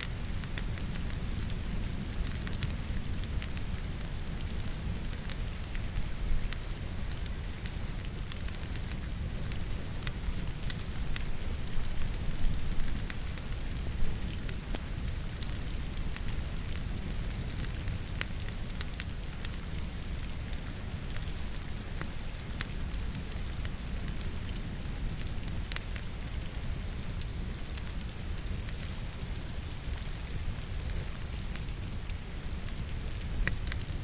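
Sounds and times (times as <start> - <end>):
firewood crackling and popping: 0.0 - 34.0.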